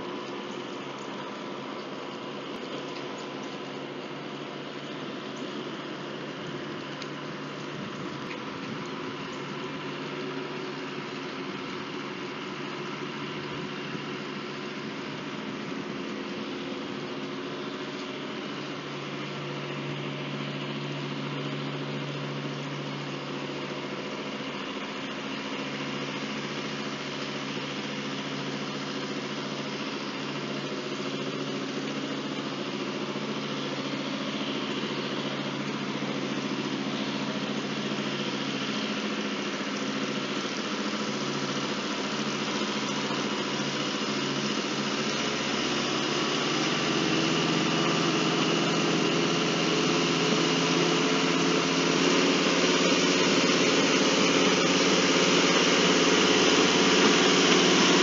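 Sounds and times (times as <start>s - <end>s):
trolley car engine humming: 0.0s - 58.0s.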